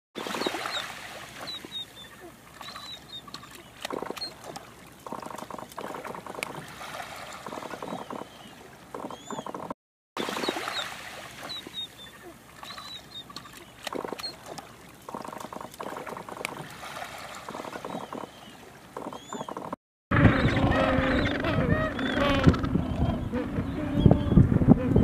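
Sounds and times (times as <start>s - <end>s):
faint lapping water: 0.2s - 25.0s.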